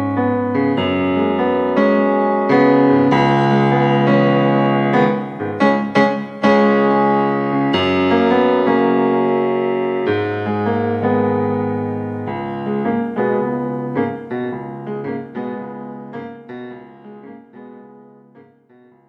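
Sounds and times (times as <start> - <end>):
synthesizer piano music: 0.0 - 19.0.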